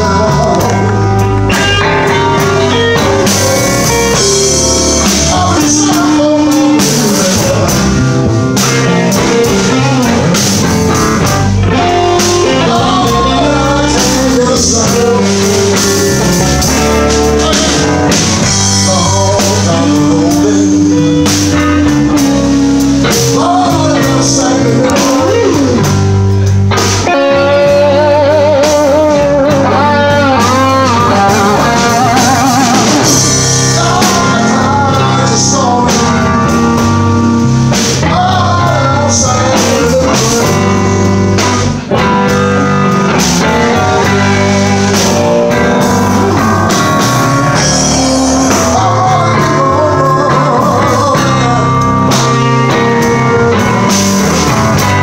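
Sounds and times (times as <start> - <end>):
bent wavering guitar notes: 0.0 - 55.0
drums: 0.0 - 55.0
electric guitar: 0.0 - 55.0
low bass line: 0.0 - 55.0.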